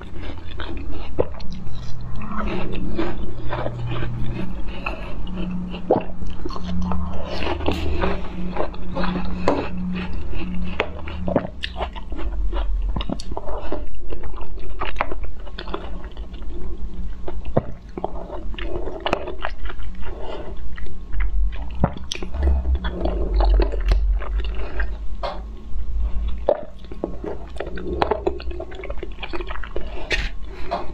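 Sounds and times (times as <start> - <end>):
chewing with wet mouth sounds: 0.0 - 30.9
faint low hum: 0.0 - 30.9.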